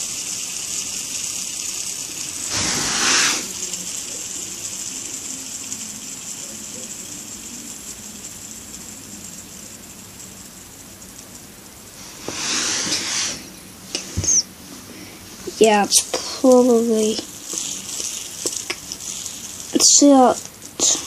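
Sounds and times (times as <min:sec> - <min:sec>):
fidget spinner whirring: 0:00.0 - 0:21.0.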